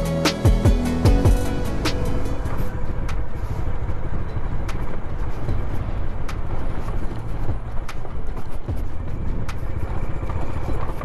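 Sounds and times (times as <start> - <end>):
motorcycle engine low rumble: 0.0 - 11.0
wind on microphone: 1.0 - 11.0.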